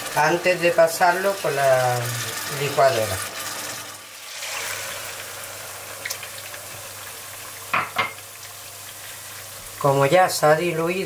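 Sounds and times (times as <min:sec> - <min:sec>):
sauce sizzling in a frying pan: 0:00.0 - 0:11.0.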